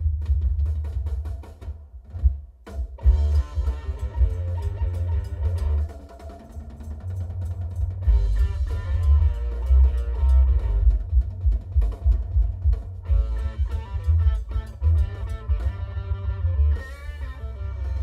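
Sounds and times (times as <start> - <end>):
guitar and drums song: 0.0 - 18.0.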